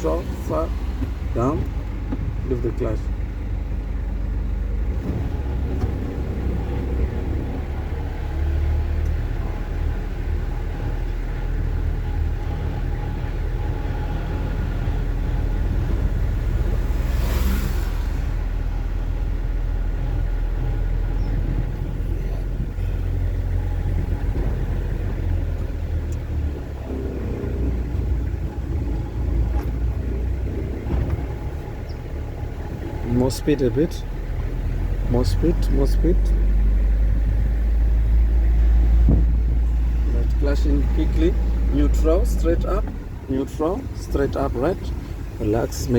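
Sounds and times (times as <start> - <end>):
vehicle engine and road rumble: 0.0 - 45.9.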